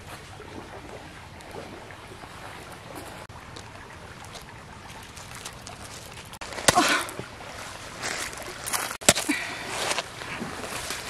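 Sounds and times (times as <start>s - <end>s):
water lapping on pebbles: 0.0s - 11.0s.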